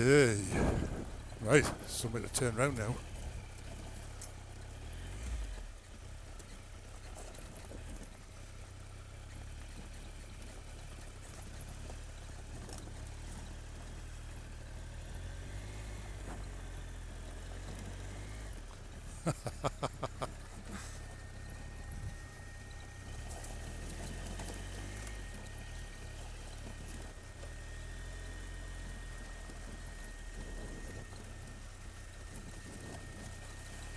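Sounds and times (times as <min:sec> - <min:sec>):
motorcycle engine rumbling: 0:00.0 - 0:33.9.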